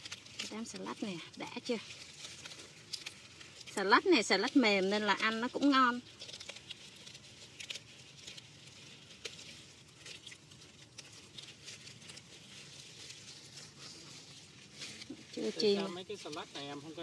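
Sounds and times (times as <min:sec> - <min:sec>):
lettuce leaves snapping: 0:00.0 - 0:17.0.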